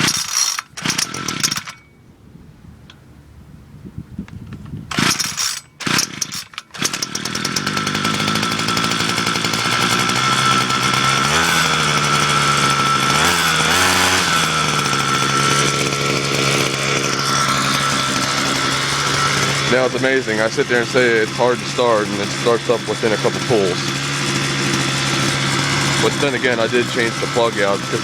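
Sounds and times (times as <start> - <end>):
small gas engine running: 0.0 - 1.9, 4.7 - 28.0
starter cord pulls: 0.0 - 2.0, 4.2 - 28.0.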